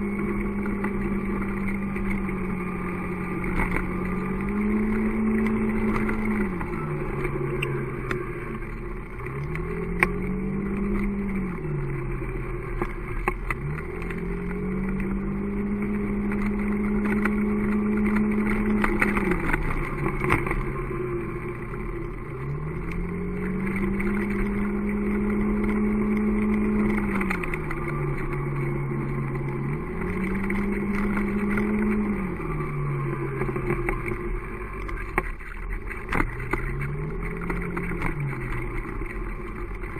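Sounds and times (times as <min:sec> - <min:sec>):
road and wind noise: 0:00.0 - 0:39.9
vehicle engine accelerating: 0:00.0 - 0:39.9.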